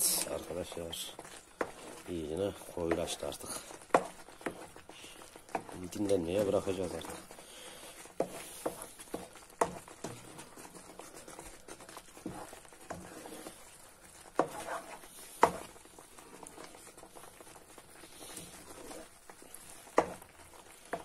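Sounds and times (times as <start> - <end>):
wooden spoon scraping a pan: 0.0 - 21.0.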